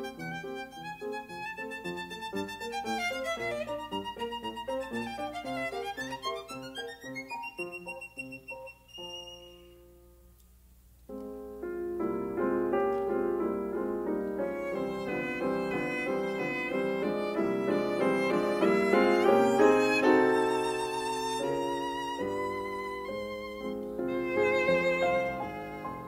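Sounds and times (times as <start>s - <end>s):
lively instrumental music: 0.0s - 9.8s, 11.3s - 26.0s.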